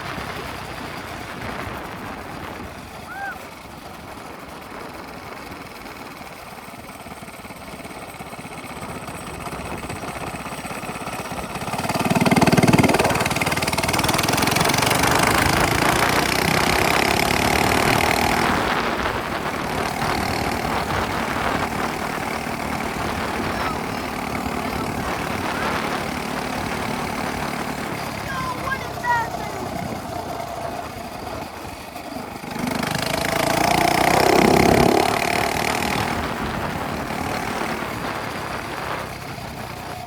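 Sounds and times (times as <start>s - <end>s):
minibike engine running: 0.0s - 40.0s.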